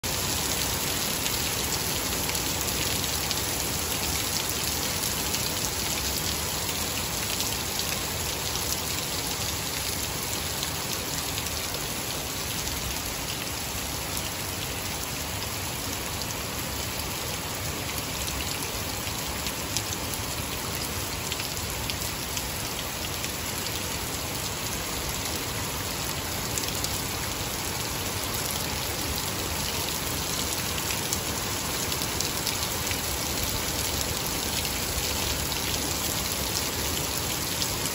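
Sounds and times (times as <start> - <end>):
heavy rain on grass and mud: 0.0 - 37.9.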